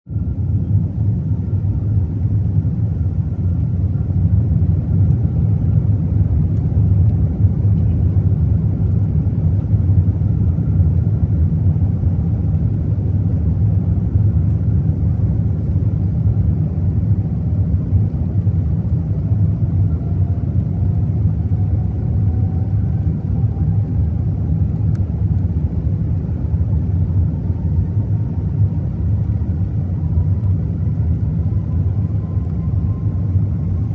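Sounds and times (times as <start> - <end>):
airliner engines rumbling in cabin: 0.1 - 33.9.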